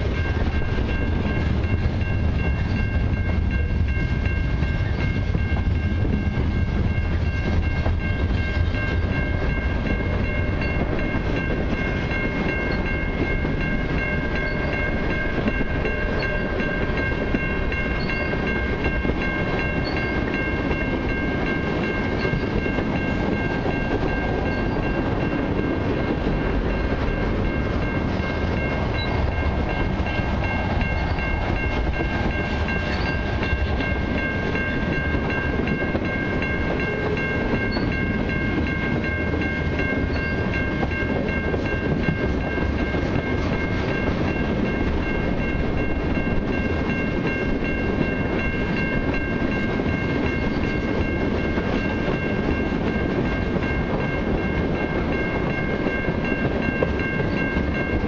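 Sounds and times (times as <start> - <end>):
freight train rumbling past: 0.0 - 58.0
steady high ringing: 0.0 - 58.0.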